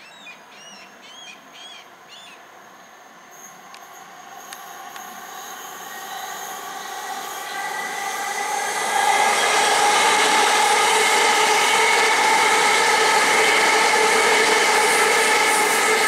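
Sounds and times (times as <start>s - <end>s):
electric train passing: 0.9s - 16.0s
train motor whine: 2.8s - 16.0s.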